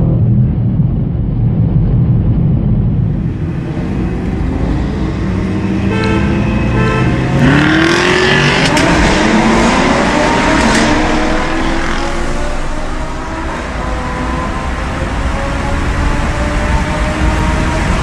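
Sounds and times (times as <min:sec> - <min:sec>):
cars accelerating hard: 0:03.2 - 0:18.0.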